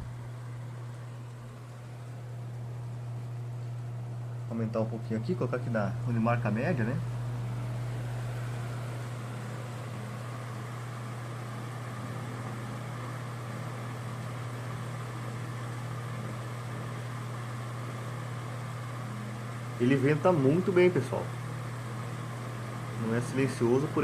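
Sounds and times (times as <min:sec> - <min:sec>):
fan motor hum: 0:00.0 - 0:24.0.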